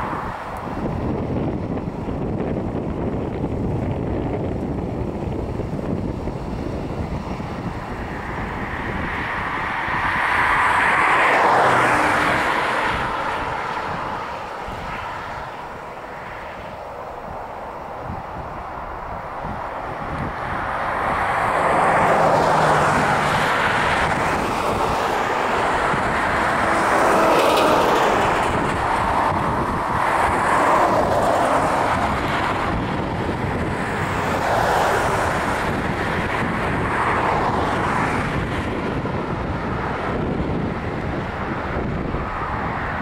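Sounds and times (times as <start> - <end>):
jet engines roaring on takeoff: 0.0 - 43.0.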